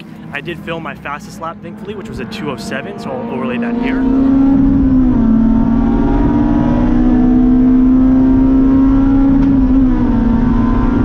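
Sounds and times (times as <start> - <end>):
car engine revving high: 0.2 - 11.0.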